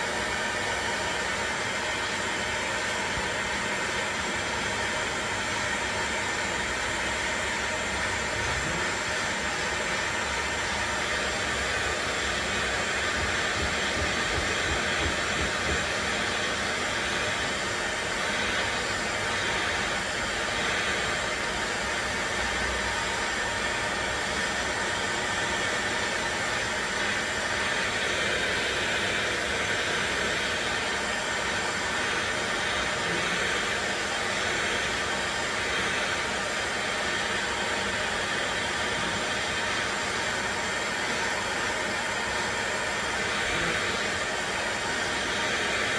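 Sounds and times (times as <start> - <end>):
heat gun hissing: 8.3 - 45.9.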